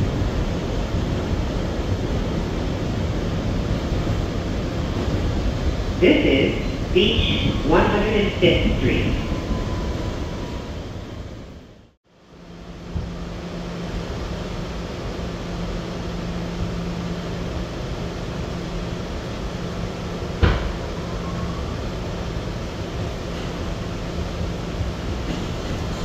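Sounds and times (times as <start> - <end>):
subway car ventilation hum: 0.0 - 26.0.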